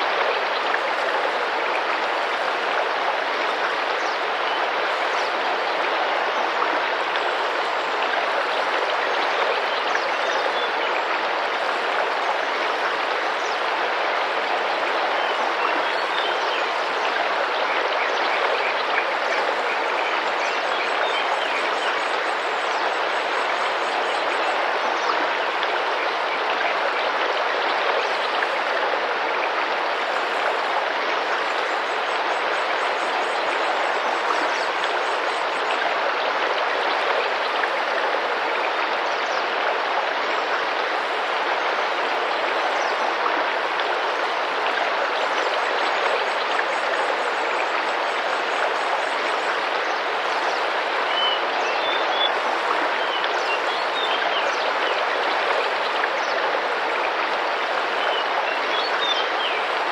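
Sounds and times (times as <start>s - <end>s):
river water rushing and splashing: 0.0s - 59.9s.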